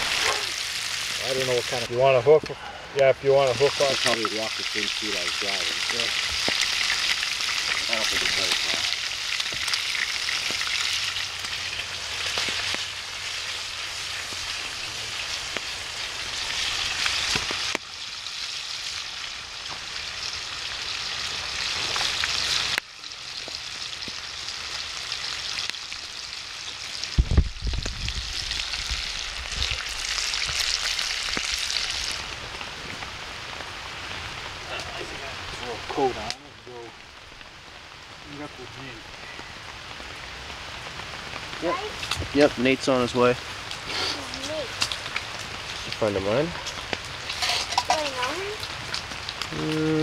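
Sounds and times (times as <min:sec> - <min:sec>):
food sizzling in a pan: 0:00.0 - 0:02.0, 0:03.0 - 0:50.0.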